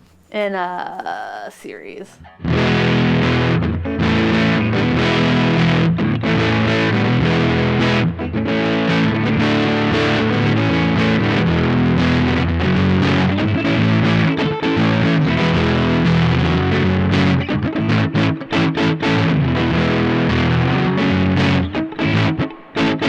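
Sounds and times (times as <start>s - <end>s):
distorted electric guitar chords: 2.2s - 23.0s.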